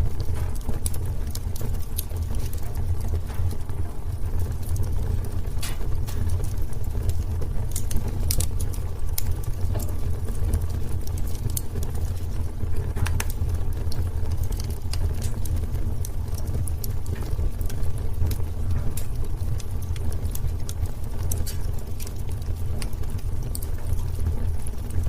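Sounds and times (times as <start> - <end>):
burning wood crackling and popping: 0.0 - 25.0
fire flames rumbling: 0.0 - 25.0.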